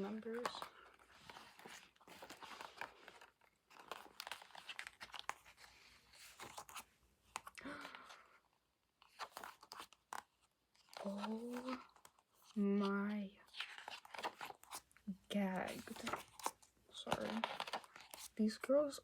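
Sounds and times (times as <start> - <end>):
paper and plastic rustling: 0.0 - 8.1, 9.0 - 18.9.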